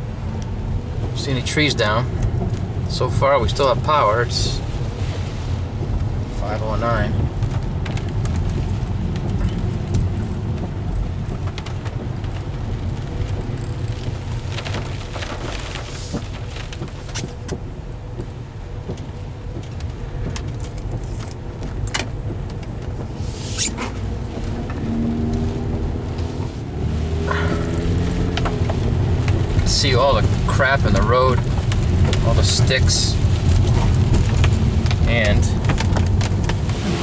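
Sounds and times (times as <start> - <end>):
car road and wind noise: 0.0 - 37.0.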